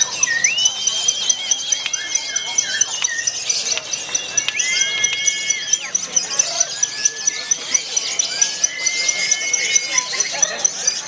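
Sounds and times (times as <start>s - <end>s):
fast high ticking: 0.0s - 11.0s
songbird whistled warbling song: 0.0s - 11.0s.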